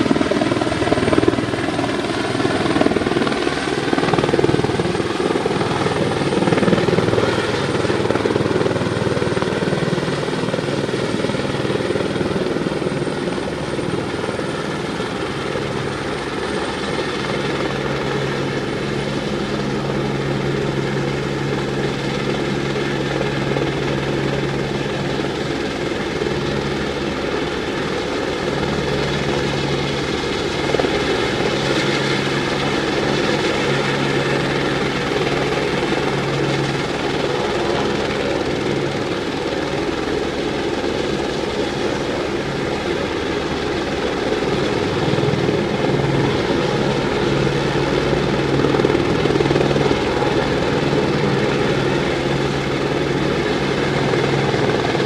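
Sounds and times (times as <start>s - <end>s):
helicopter rotor and engine running: 0.0s - 55.0s.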